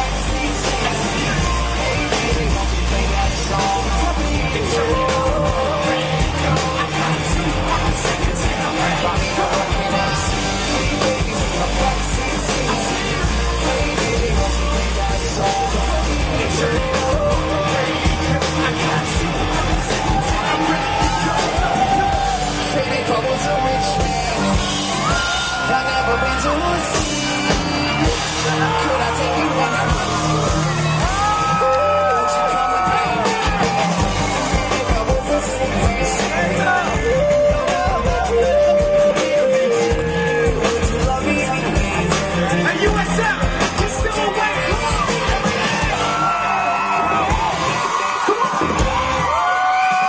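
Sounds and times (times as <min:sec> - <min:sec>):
crowd yelling: 0:00.0 - 0:50.0
heavy bass line: 0:00.0 - 0:50.0
loud live concert music: 0:00.0 - 0:50.0
person singing: 0:00.0 - 0:50.0.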